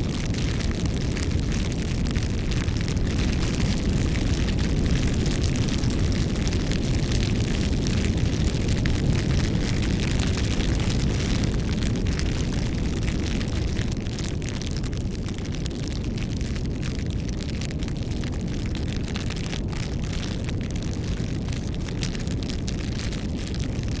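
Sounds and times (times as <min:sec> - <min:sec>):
burning wood crackling and popping: 0:00.0 - 0:24.0
low rumble of flames: 0:00.0 - 0:24.0.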